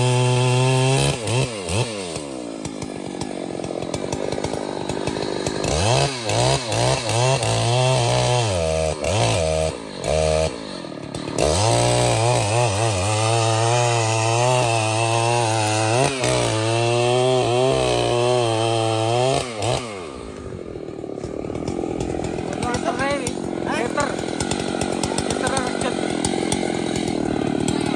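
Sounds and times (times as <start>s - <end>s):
chainsaw revving: 0.0s - 27.9s.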